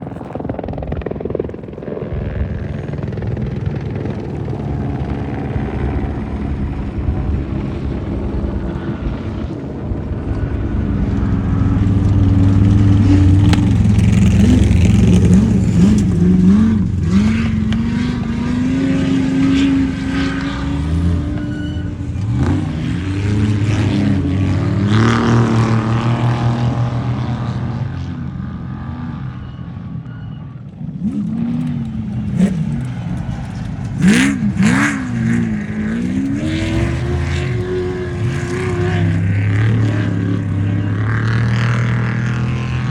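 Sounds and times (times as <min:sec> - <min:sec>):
race vehicle engine revving: 0:02.1 - 0:30.1, 0:30.9 - 0:42.9.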